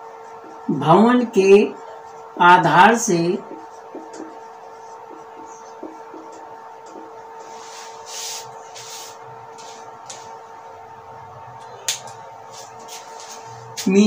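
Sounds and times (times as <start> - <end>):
marker scratching on whiteboard: 0.0 - 10.5, 11.9 - 14.0
faint hum: 0.0 - 14.0.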